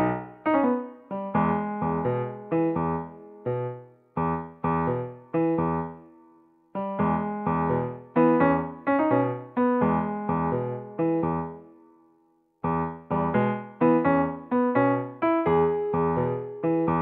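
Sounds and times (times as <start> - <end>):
gentle keyboard melody in chords: 0.0 - 17.0.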